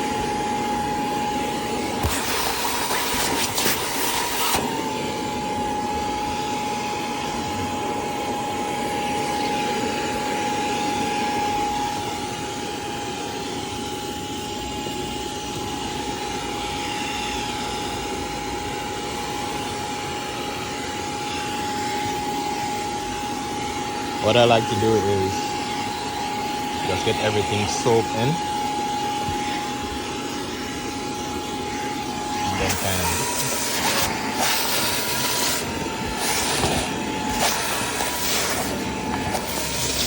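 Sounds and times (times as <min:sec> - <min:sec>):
spot cleaner suction motor whine: 0:00.0 - 0:40.0.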